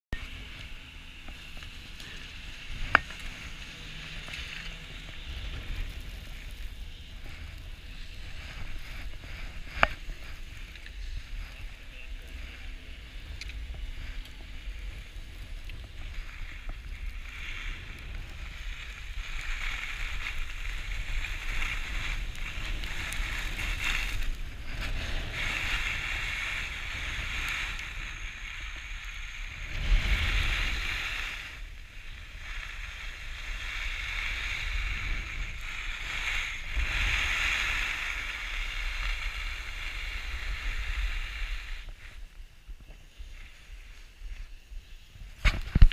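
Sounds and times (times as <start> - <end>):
wind rumble on microphone: 0.1 - 45.9
skis scraping over snow: 0.2 - 45.9.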